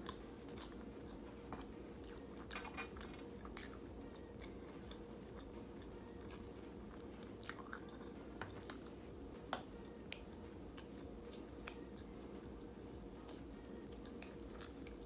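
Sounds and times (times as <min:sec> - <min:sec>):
person chewing food: 0:00.0 - 0:12.2, 0:13.2 - 0:15.0.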